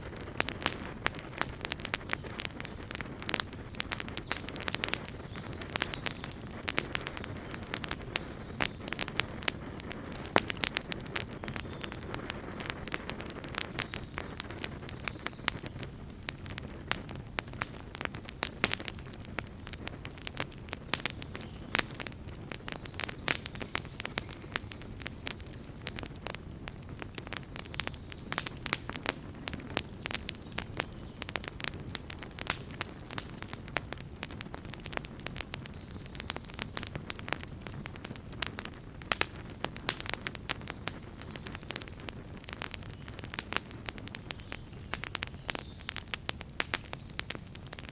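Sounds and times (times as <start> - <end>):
campfire crackles and pops: 0.0 - 47.9
low rumble of flame: 0.0 - 47.9.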